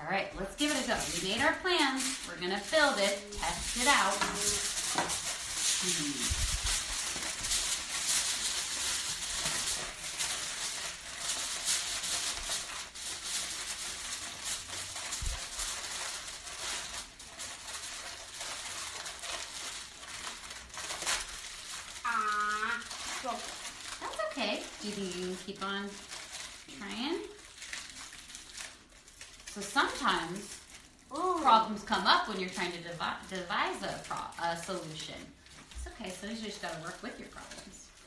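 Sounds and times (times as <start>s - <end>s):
aluminium foil crinkling: 0.0s - 38.0s.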